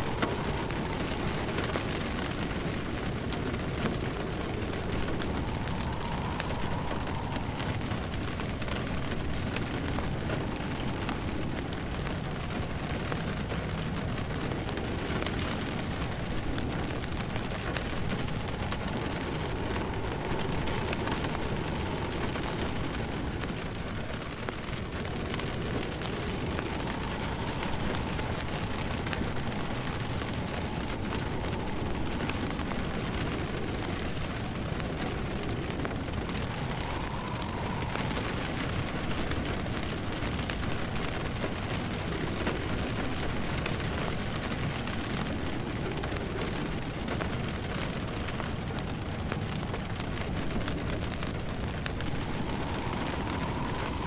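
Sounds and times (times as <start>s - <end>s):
steady rain falling: 0.0s - 54.0s
wood fire crackling: 0.0s - 54.0s.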